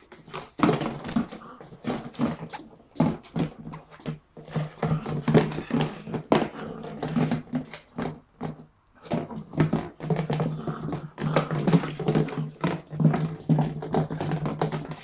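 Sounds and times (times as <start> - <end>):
plastic watering can clattering: 0.0 - 15.0.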